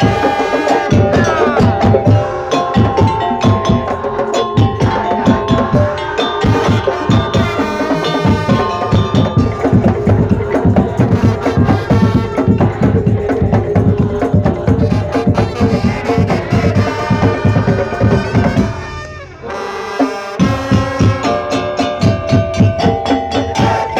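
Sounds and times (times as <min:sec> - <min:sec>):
brassy melody line: 0:00.0 - 0:13.4, 0:14.0 - 0:22.5, 0:23.4 - 0:23.9
fast drum percussion: 0:00.0 - 0:23.9.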